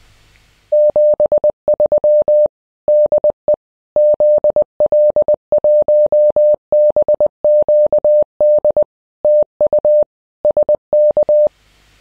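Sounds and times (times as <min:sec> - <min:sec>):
morse code beeps: 0:00.7 - 0:11.5.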